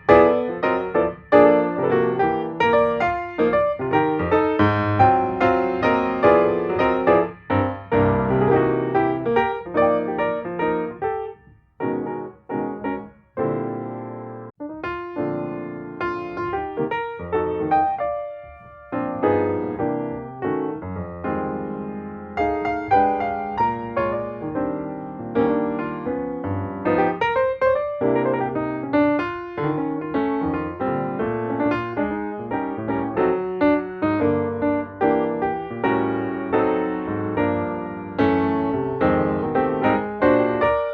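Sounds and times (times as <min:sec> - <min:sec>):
piano music: 0:00.0 - 0:40.9.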